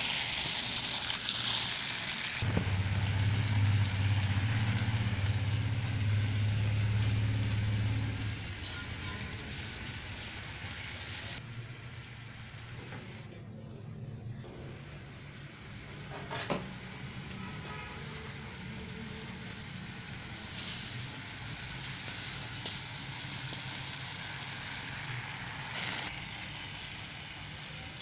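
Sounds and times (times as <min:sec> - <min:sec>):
toy train motor whirring: 0:00.0 - 0:02.5, 0:03.2 - 0:11.4, 0:15.8 - 0:28.0.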